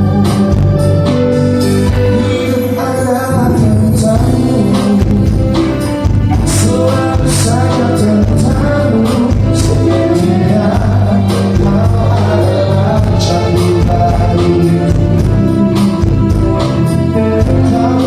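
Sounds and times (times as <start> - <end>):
live band music: 0.0 - 18.0
person singing: 0.0 - 18.0.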